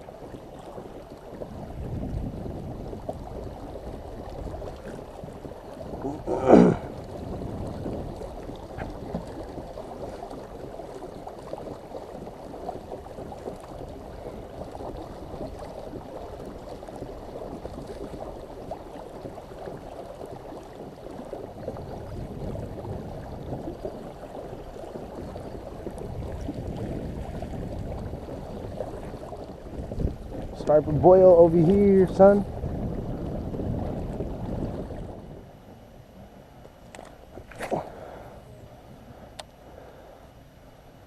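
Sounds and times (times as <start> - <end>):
water sloshing against kayak hull: 0.0 - 41.0.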